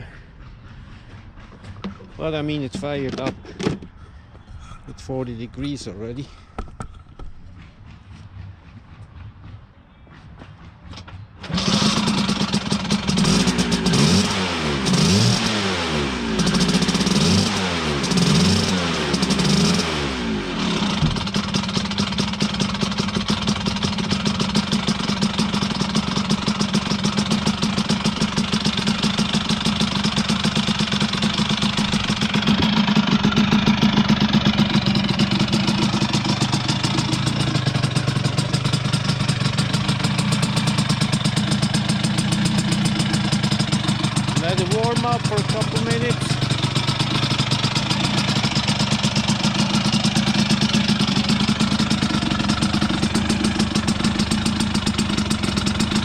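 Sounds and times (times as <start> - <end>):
scooter engine revving and idling: 0.0 - 4.0, 10.7 - 56.0.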